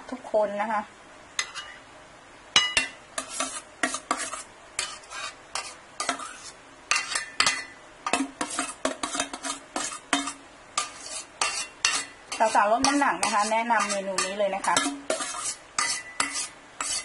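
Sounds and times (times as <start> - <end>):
metal spoon scraping glass bowl: 3.2 - 17.0.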